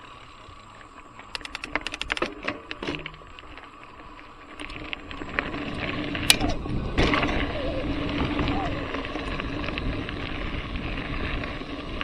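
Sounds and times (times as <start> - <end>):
bike clicking and rattling: 0.0 - 12.0
tyre and ride noise: 0.0 - 12.0.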